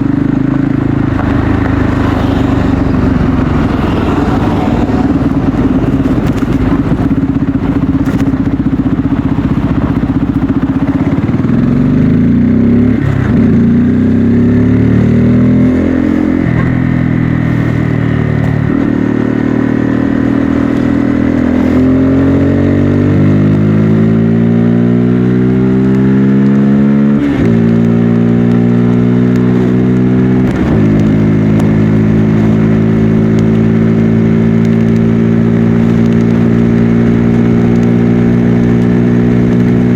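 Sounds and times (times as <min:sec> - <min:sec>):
motorcycle engine through gears: 0:00.0 - 0:39.9.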